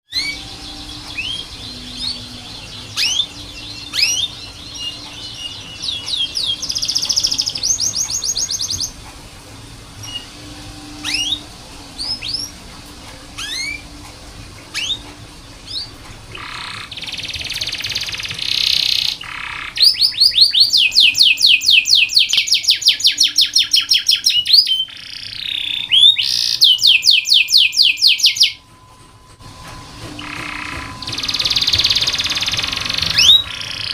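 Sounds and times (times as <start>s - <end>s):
canary singing: 0.1s - 9.0s, 10.0s - 14.1s, 14.7s - 28.7s, 29.8s - 33.9s.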